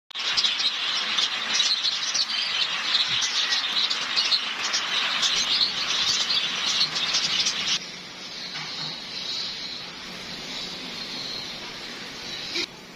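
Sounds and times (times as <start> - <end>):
small birds chirping: 0.1 - 12.9
steady hiss: 0.2 - 12.9.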